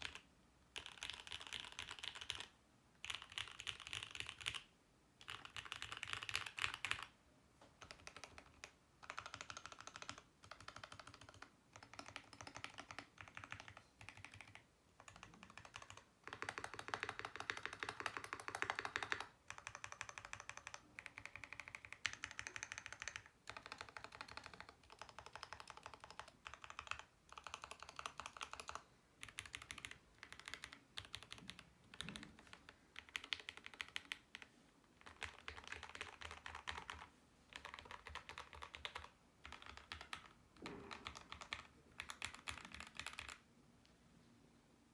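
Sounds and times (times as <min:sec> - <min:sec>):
mechanical keyboard typing: 0:00.0 - 0:07.1, 0:07.8 - 0:43.4.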